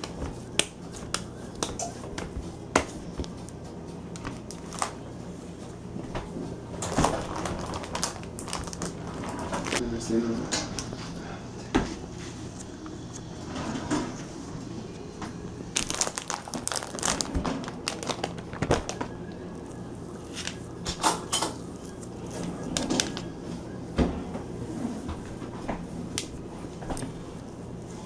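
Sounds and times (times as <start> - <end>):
crinkling handling noise: 0.0 - 28.0.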